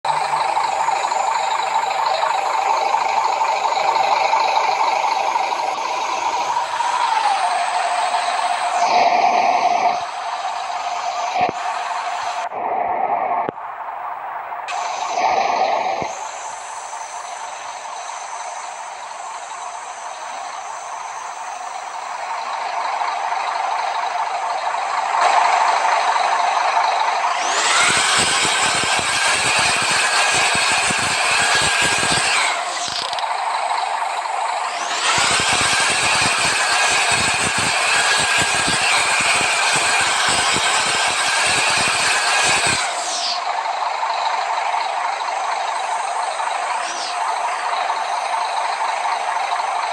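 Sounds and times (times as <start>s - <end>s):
bus engine with loud exhaust: 0.0s - 49.9s
dense engine rattle: 0.0s - 49.9s.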